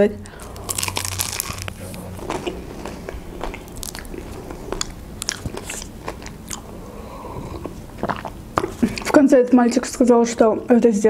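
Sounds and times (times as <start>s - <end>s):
person chewing crispy food: 0.3s - 9.2s.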